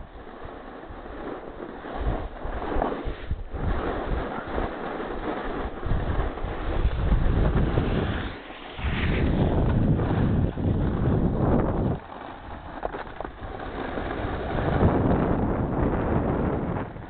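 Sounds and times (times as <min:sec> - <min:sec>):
skis scraping on snow: 0:00.0 - 0:17.0
wind buffeting microphone: 0:00.0 - 0:17.0.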